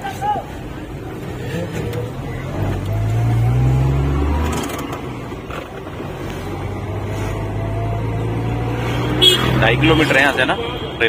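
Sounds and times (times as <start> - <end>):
van engine running: 0.0 - 9.9.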